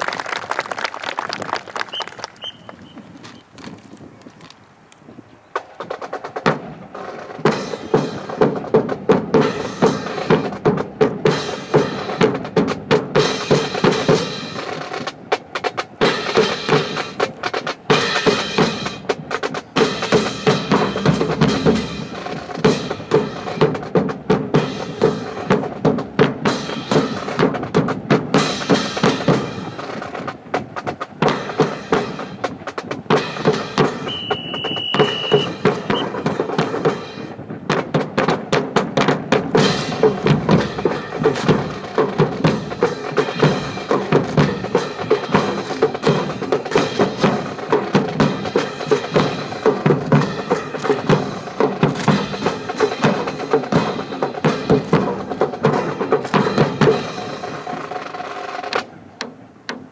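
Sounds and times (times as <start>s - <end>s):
marching snare and bass drums: 5.5s - 59.9s.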